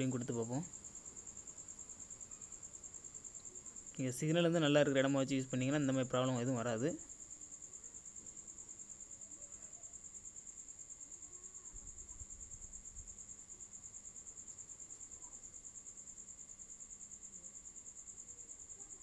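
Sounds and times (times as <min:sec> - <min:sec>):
pulsing insect trill: 0:00.0 - 0:19.0.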